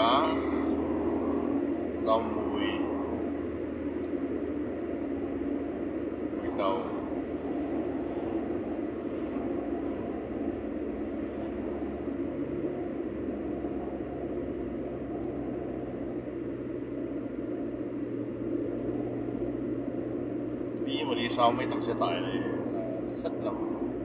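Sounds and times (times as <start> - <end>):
low engine hum: 0.0 - 24.0
tyre road noise: 0.0 - 24.0.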